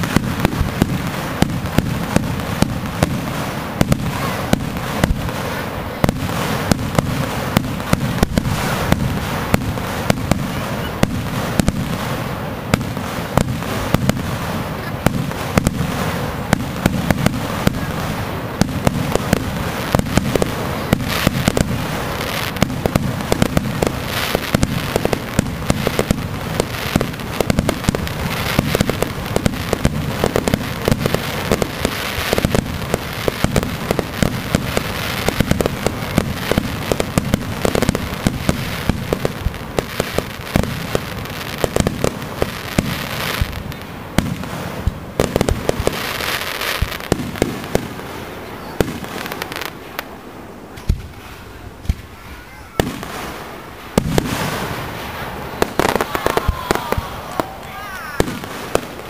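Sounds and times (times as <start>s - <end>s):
fireworks booming: 0.0s - 59.0s
fireworks crackling: 0.0s - 59.0s.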